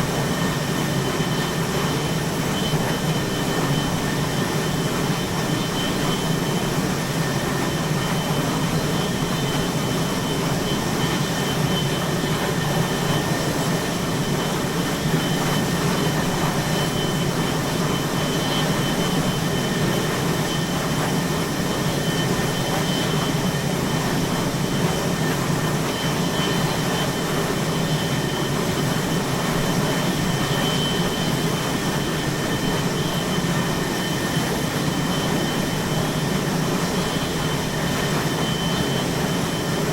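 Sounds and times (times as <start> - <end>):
jet engines and machinery roar: 0.0 - 39.9.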